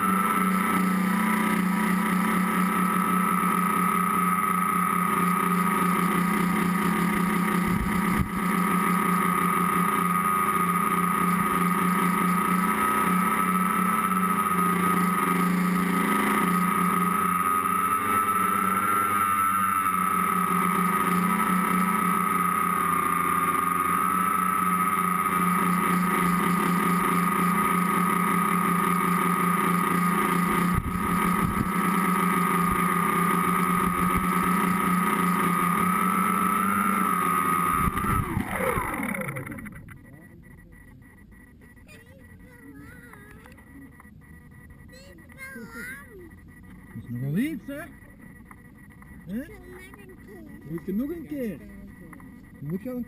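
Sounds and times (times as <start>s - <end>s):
drone motors and propellers whining: 0.0s - 53.0s.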